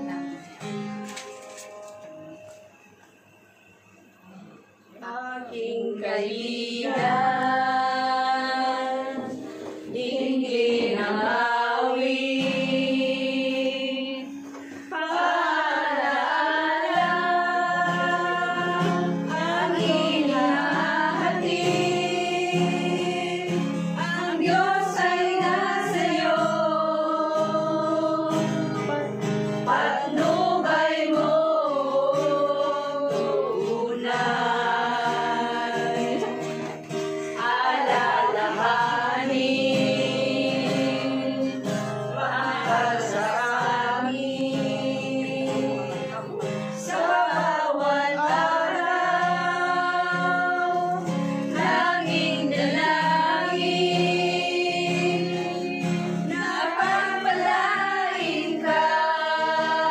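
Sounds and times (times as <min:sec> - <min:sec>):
women singing together: 0:05.0 - 0:59.9.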